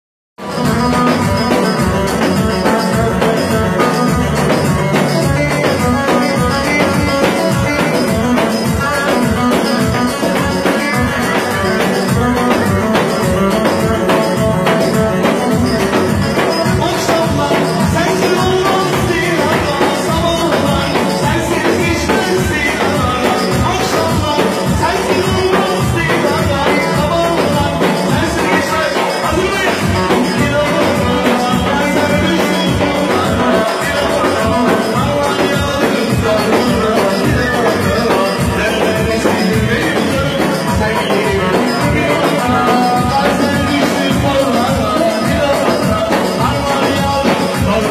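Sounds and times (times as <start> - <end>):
electronic keyboard: 0.4 - 47.9
steady drum beat: 0.4 - 47.9.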